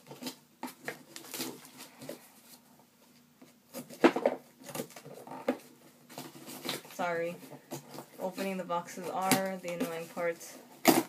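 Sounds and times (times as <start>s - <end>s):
scissors cutting cardboard: 0.0s - 2.5s, 3.4s - 11.0s.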